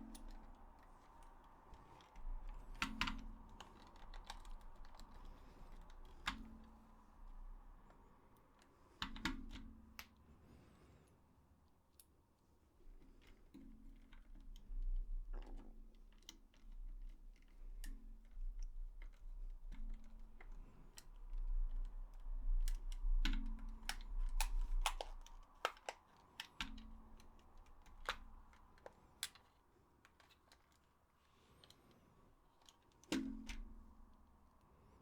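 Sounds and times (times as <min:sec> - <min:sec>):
small plastic clicks and taps: 0:00.0 - 0:06.8, 0:07.9 - 0:10.2, 0:13.0 - 0:32.0, 0:32.6 - 0:34.2.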